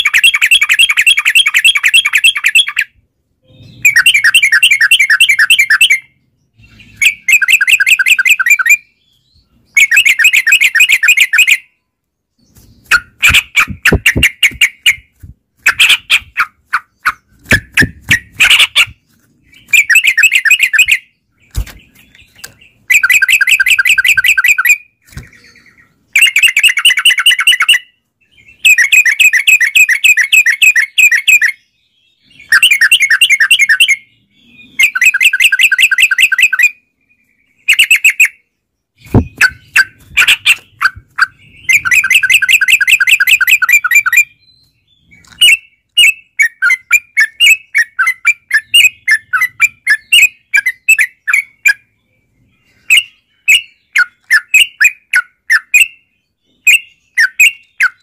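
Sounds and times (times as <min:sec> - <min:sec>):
bulbul chattering song: 0:00.0 - 0:58.0.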